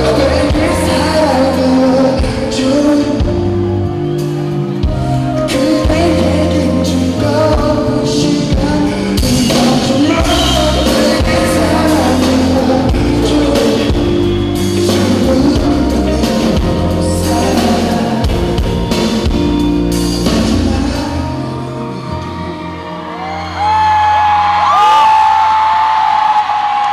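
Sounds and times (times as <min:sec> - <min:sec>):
man singing into microphone: 0:00.0 - 0:03.7, 0:04.8 - 0:23.3
amplified rock band backing: 0:00.0 - 0:26.9.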